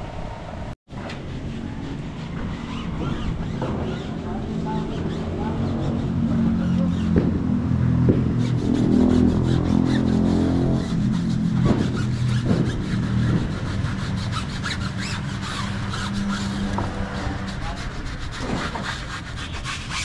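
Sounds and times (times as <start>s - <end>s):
brushes scrubbing tyres: 0.9s - 20.0s.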